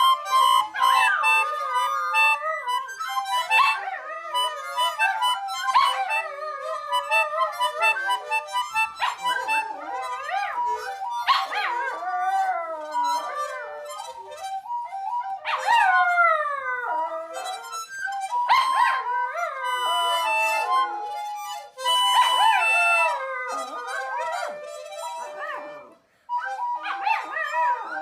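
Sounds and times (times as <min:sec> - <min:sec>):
dog howling: 0:00.0 - 0:28.0
instrument holding musical notes: 0:00.0 - 0:28.0.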